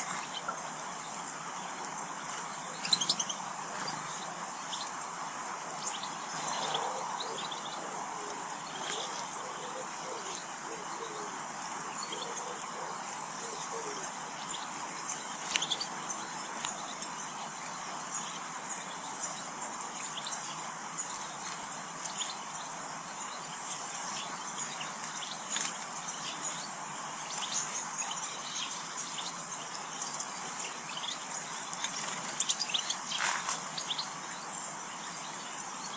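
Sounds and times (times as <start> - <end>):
background hiss: 0.0 - 35.9
small birds chirping: 0.0 - 35.9.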